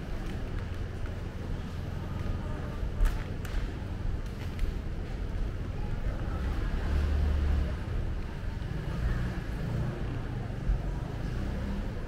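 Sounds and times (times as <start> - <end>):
crowd murmur: 0.0 - 12.0.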